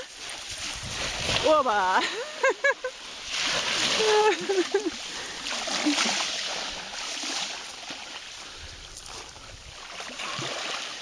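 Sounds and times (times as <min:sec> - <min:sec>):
seawater sloshing: 0:00.0 - 0:11.0.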